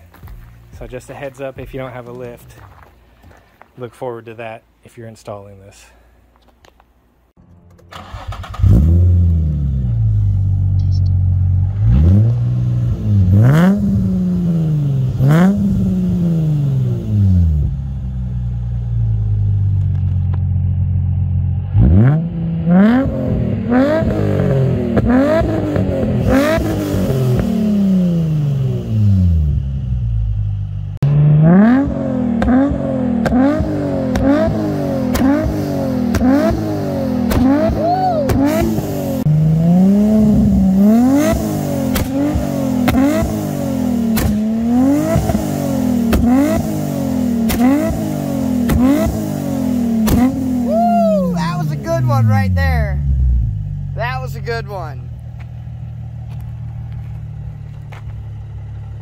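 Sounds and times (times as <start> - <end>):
car engine idling and revving: 6.9 - 59.0.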